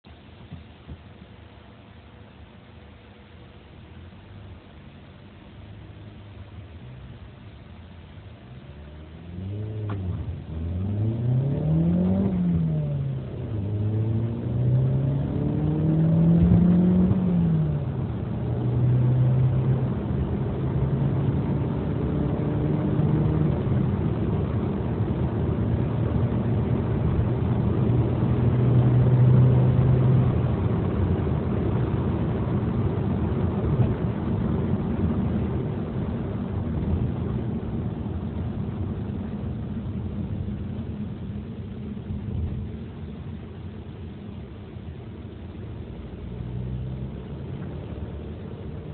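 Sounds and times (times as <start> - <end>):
car engine accelerating hard: 8.2 - 48.9.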